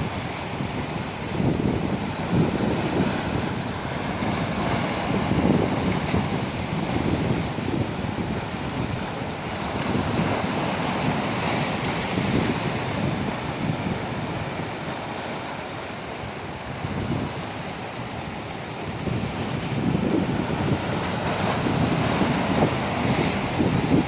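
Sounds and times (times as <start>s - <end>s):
ocean waves washing ashore: 0.0s - 24.0s
wind buffeting the microphone: 0.0s - 24.0s.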